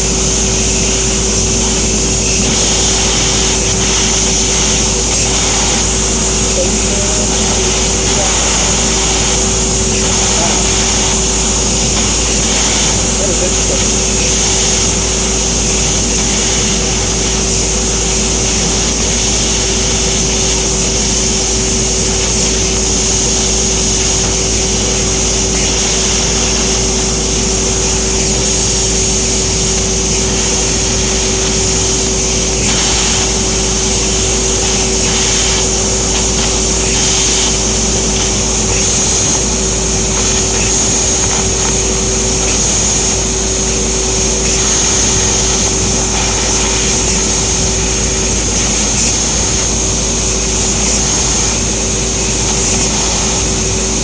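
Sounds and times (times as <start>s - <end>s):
laser cutter hissing: 0.0s - 54.0s.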